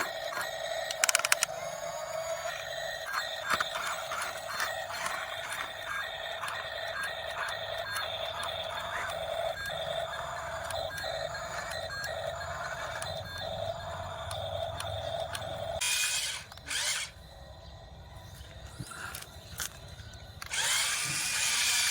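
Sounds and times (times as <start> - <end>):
remote-control model whining: 0.0 - 21.9.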